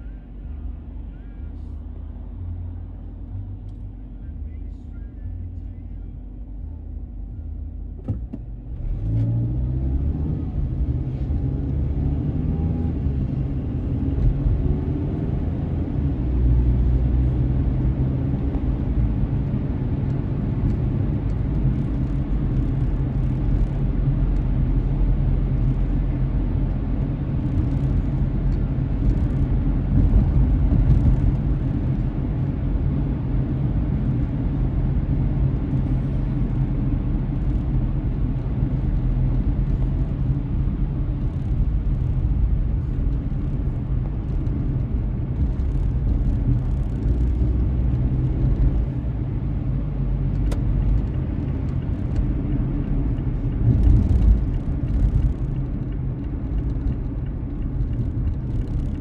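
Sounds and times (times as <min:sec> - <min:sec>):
car engine accelerating: 0:07.7 - 0:59.0.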